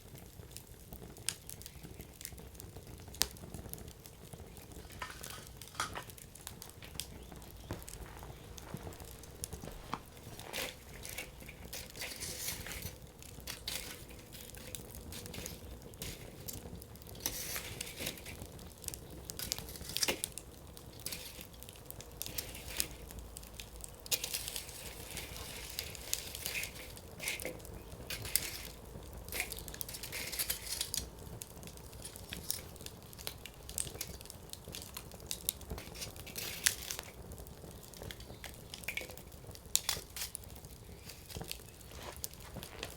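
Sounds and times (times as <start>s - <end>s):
fire hissing: 0.0s - 42.9s
logs crackling and popping: 0.0s - 42.9s.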